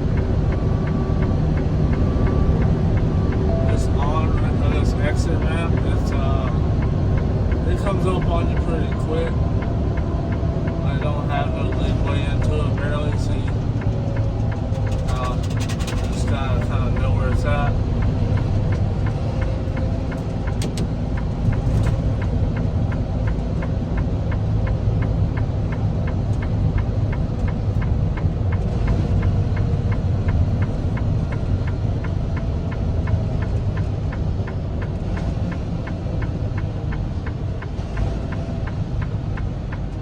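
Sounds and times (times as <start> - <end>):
light even ticking: 0.0 - 40.0
truck engine and road rumble: 0.0 - 40.0.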